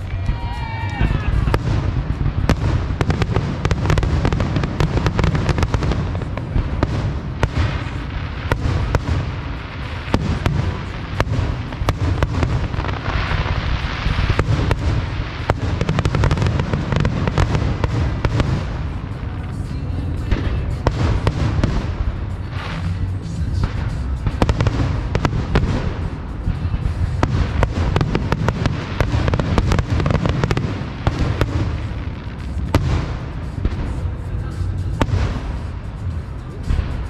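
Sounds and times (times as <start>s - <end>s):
firework bangs and cracks: 0.0s - 37.0s
hissing crackle: 1.1s - 37.0s
low rumble of booms: 1.3s - 37.0s.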